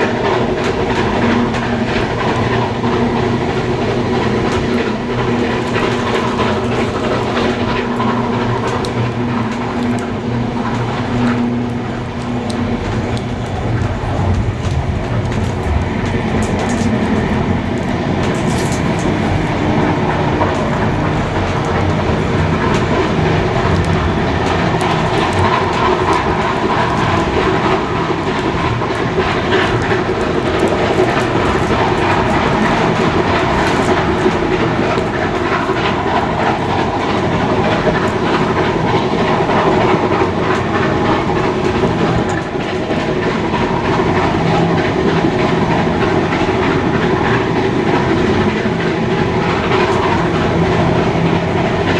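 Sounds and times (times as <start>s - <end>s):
steam train running: 0.0s - 51.9s
wheels clicking over rail joints: 0.0s - 51.9s.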